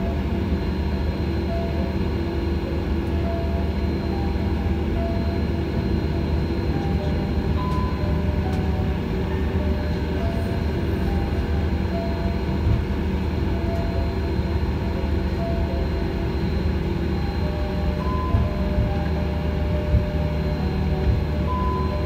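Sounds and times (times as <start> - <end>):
jet engines low rumble: 0.0 - 22.0.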